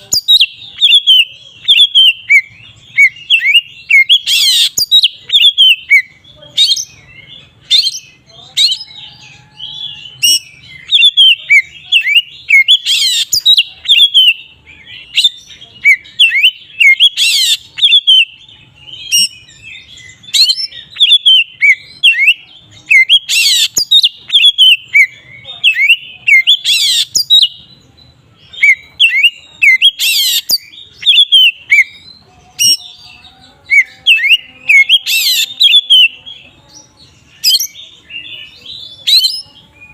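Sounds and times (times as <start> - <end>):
songbird singing whistled chirps: 0.0 - 39.9.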